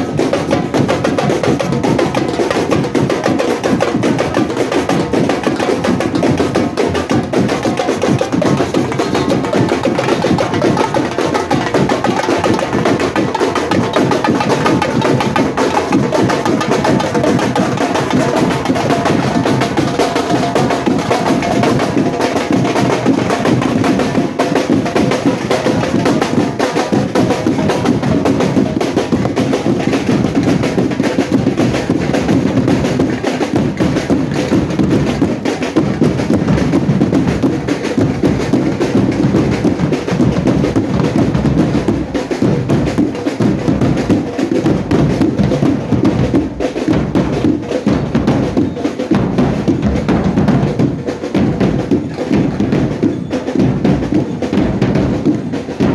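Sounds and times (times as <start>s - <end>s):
bass drum beat: 0.0s - 55.9s
carnival band playing: 0.0s - 55.9s.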